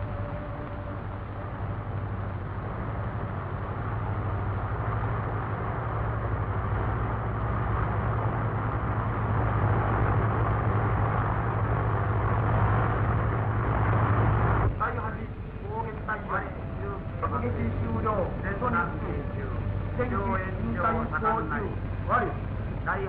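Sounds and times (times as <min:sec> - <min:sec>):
bomber piston engines droning: 0:00.0 - 0:23.0
film soundtrack hiss: 0:00.0 - 0:23.0.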